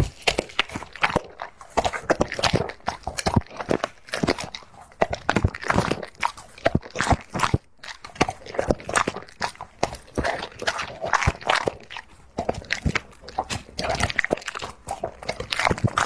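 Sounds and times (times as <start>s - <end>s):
dog crunching food: 0.0s - 16.0s.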